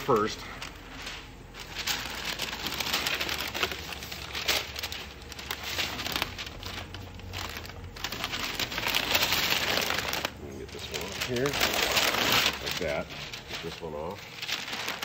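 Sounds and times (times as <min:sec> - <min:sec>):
paper crinkling and rustling: 0:00.0 - 0:15.0
tape being peeled: 0:00.0 - 0:15.0.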